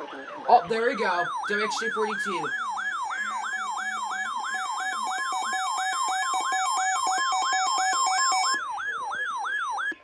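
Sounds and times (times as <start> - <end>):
steady alarm tone: 0.5 - 9.9.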